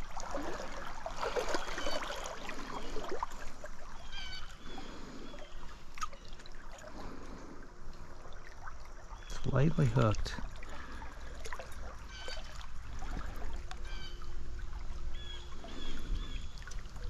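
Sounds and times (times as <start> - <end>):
stream trickling and gurgling: 0.0 - 17.0.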